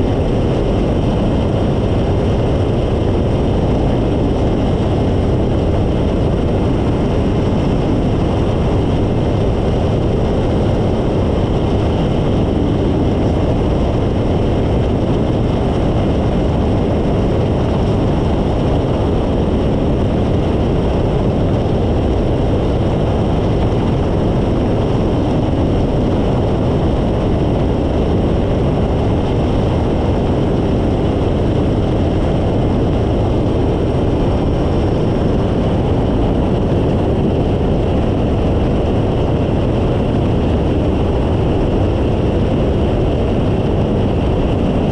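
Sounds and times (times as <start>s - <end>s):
ultralight engine and propeller: 0.0s - 44.9s
wind rushing over microphone: 0.0s - 44.9s.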